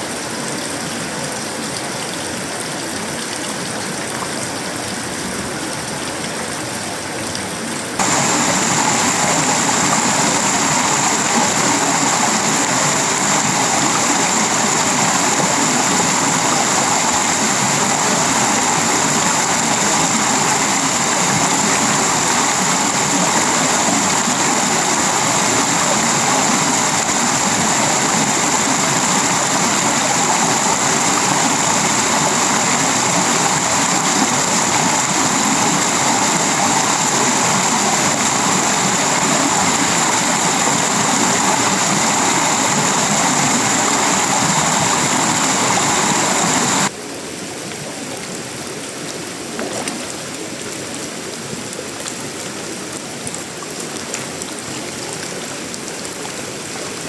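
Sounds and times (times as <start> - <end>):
heavy rain on a metal roof: 0.0 - 49.0.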